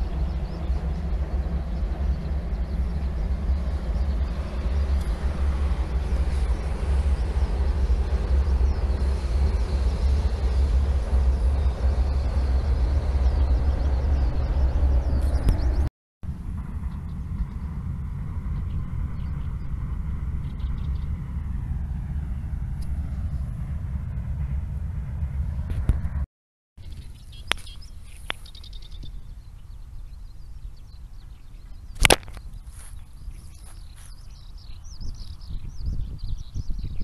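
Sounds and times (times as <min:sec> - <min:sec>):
wind rumbling on microphone: 0:00.0 - 0:37.0.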